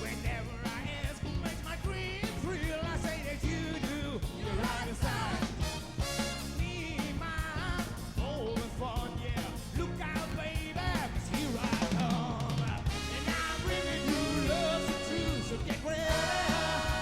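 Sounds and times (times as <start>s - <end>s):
drums: 0.0s - 17.0s
lead singer singing: 0.0s - 17.0s
soul band playing: 0.0s - 17.0s.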